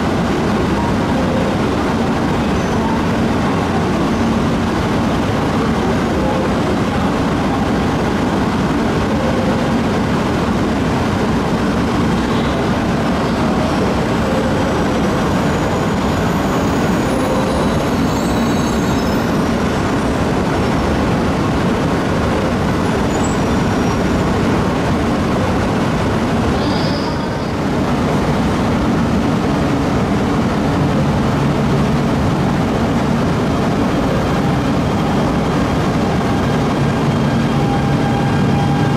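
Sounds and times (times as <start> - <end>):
train equipment humming: 0.0 - 38.9.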